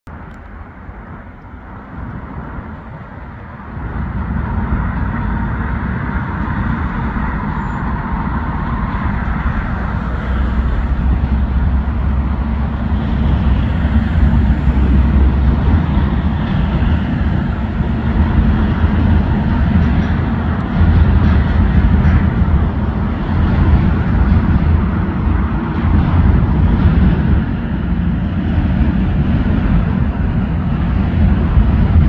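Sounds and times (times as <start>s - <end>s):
train rumbling across a bridge: 0.1s - 32.0s.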